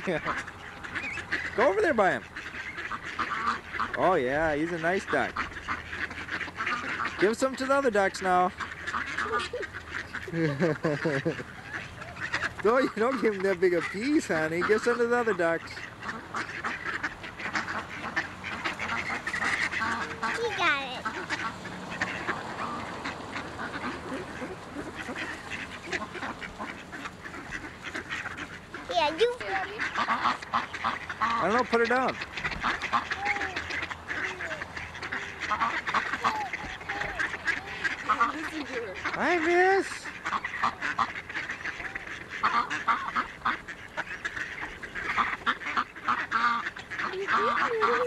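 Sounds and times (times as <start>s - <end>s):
ducks quacking: 0.0s - 48.0s.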